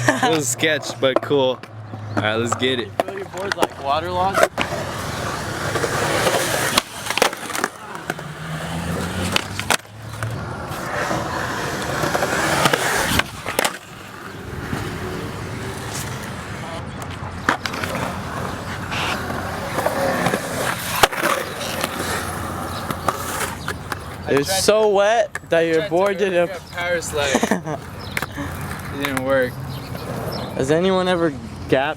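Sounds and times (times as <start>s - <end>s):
skateboard wheels rolling on concrete: 0.0s - 31.9s
skateboard clacking on ground: 0.3s - 27.2s, 27.8s - 30.3s.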